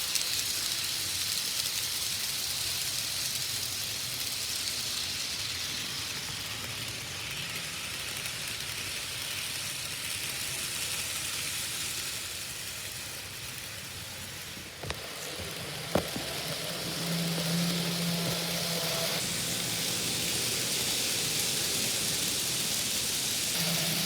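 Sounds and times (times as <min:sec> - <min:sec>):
model trains whirring on track: 0:00.0 - 0:24.0.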